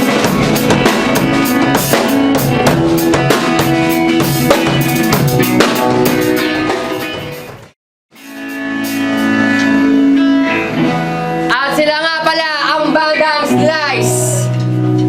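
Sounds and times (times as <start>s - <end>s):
drum kit: 0.0s - 12.4s
rock band instrumental: 0.0s - 15.0s.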